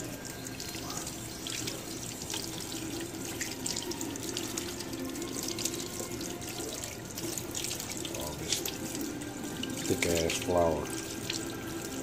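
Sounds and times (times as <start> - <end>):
faucet running into metal sink: 0.0 - 12.0.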